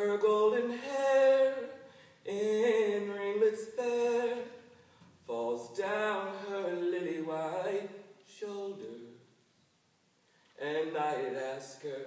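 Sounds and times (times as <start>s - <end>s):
man singing unaccompanied: 0.0s - 9.3s, 10.6s - 12.0s.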